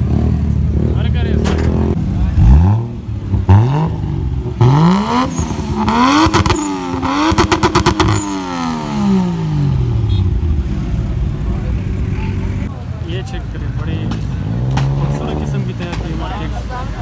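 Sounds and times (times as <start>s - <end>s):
vehicle engine revving: 0.0s - 12.7s, 13.4s - 16.6s.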